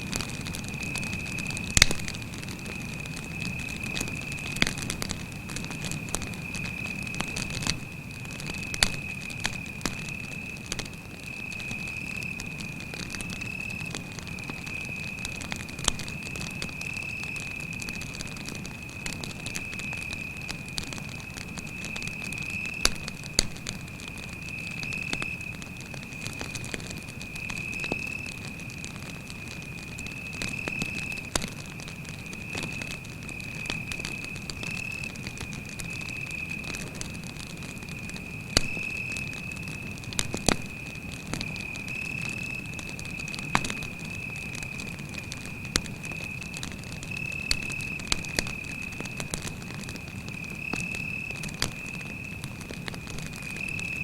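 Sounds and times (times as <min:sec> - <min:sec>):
campfire crackling and popping: 0:00.0 - 0:54.0
cricket trilling: 0:00.2 - 0:54.0.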